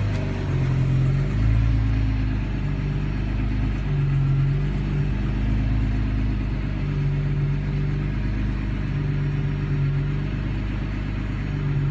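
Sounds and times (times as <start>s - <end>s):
car engine idling roughly: 0.0s - 11.9s.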